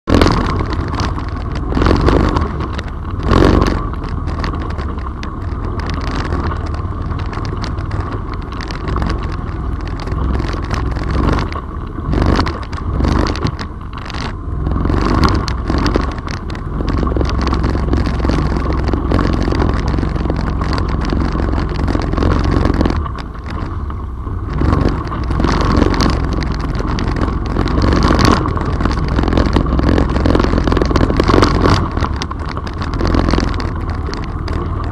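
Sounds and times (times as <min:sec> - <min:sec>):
knocks and scrapes over bumps: 0:00.0 - 0:34.9
off-road vehicle engine running: 0:00.0 - 0:34.9.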